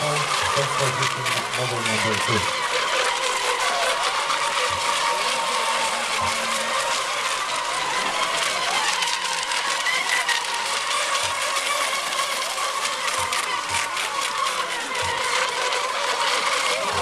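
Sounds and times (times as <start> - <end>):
electric model boats whining: 0.0 - 17.0.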